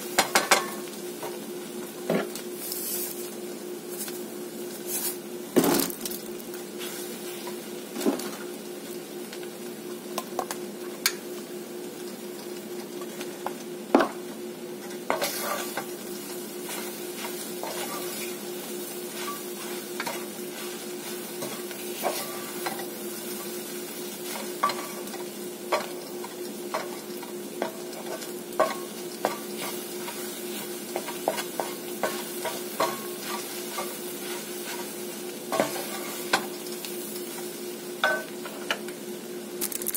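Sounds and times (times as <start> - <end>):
eggs sizzling in a skillet: 0.0 - 39.9.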